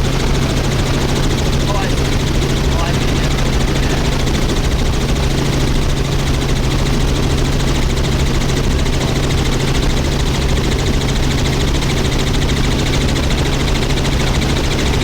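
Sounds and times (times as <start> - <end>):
constant low hum: 0.0 - 15.0
helicopter engine and rotor drone: 0.0 - 15.0.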